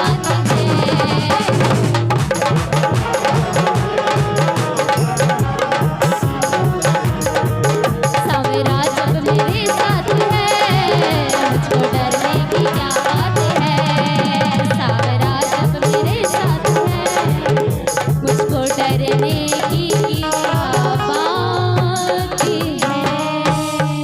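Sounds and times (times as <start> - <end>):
fast hand drum rhythm: 0.0 - 24.0.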